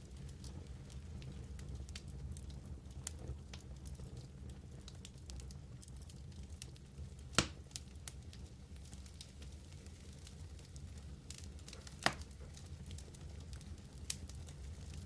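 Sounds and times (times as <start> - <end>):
fire crackling: 0.0 - 15.0
fire rumbling: 0.0 - 15.0.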